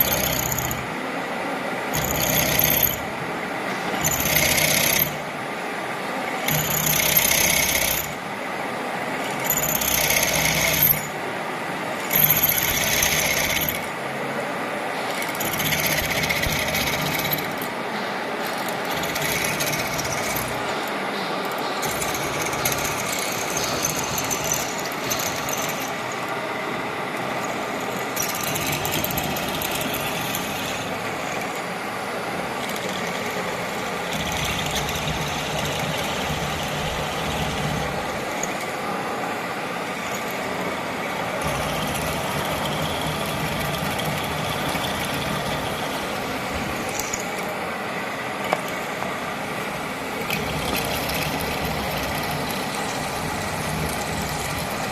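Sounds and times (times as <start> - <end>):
drilling machine whirring: 0.0 - 54.9.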